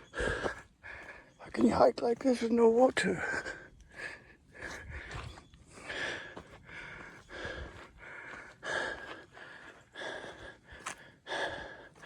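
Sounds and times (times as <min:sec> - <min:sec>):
man breathing hard: 0:00.0 - 0:01.4, 0:03.4 - 0:12.0.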